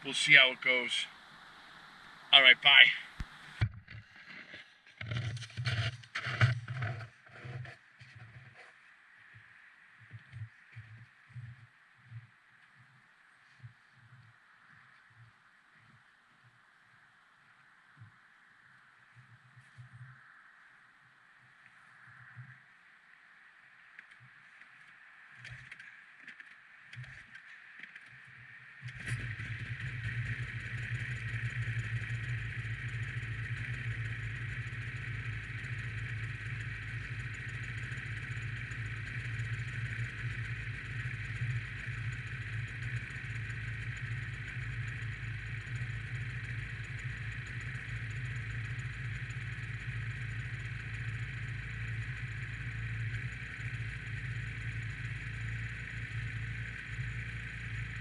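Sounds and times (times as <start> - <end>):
snowmobile engine droning: 0.0 - 20.2, 21.0 - 58.0.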